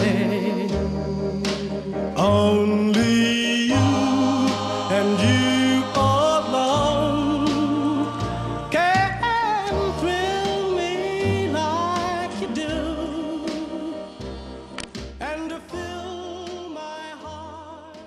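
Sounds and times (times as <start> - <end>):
instrumental backing: 0.0 - 18.0.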